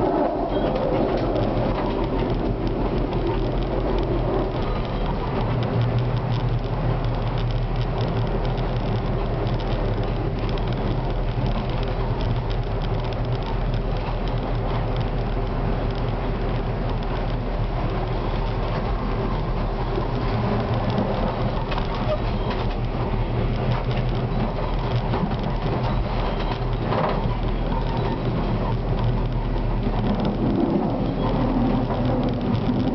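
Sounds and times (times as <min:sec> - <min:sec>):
constant low hum: 0:00.0 - 0:32.9
tram wheels running on rails: 0:00.0 - 0:32.9.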